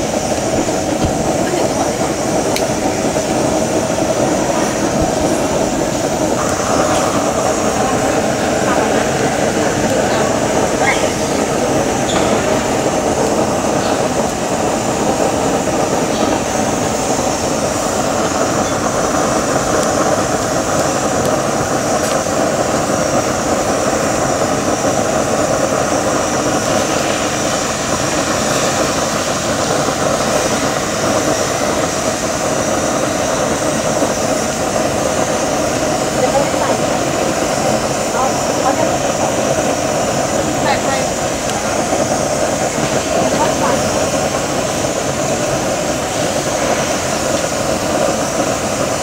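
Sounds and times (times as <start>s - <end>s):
steaks sizzling in a grill pan: 0.1s - 48.6s.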